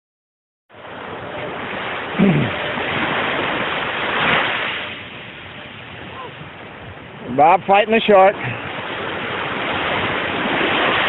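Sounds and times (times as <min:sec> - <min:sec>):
ocean surf washing: 0:00.7 - 0:11.0.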